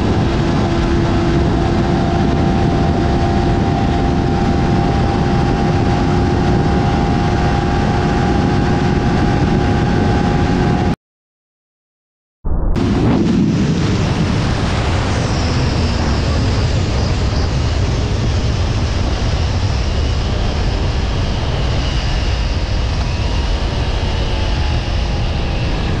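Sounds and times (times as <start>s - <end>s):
wind noise on microphone: 0.0s - 11.0s, 12.5s - 26.0s.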